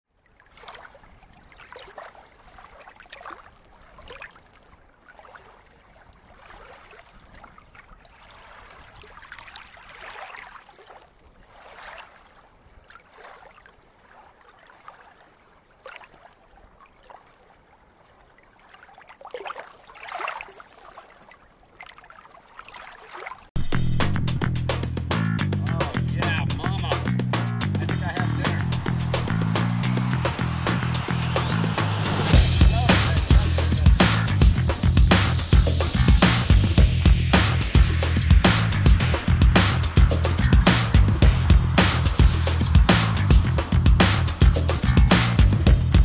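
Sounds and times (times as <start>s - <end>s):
water splashing and trickling: 0.1s - 23.6s, 26.5s - 46.0s.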